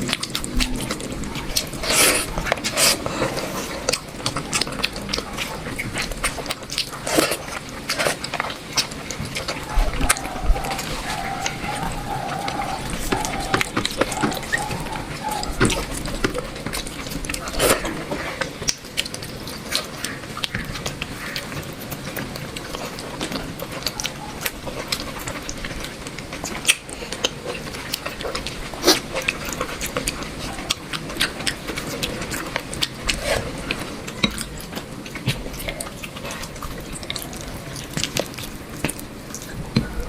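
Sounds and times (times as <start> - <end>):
person chewing wetly: 0.0 - 40.0.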